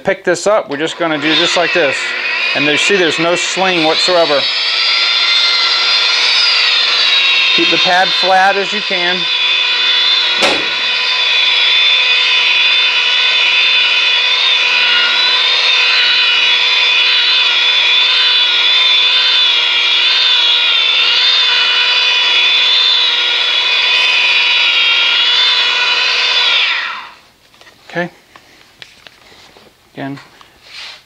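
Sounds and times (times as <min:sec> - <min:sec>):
rotary polisher motor whine: 0:00.7 - 0:27.3.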